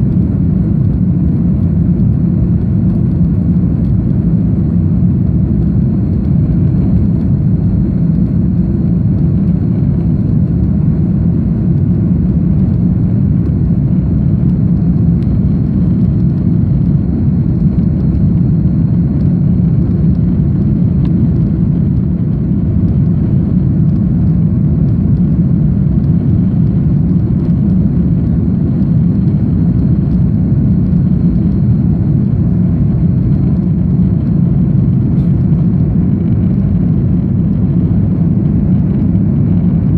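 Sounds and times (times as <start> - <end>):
faint high steady whine: 0.0 - 39.9
jet engine drone in cabin: 0.0 - 39.9.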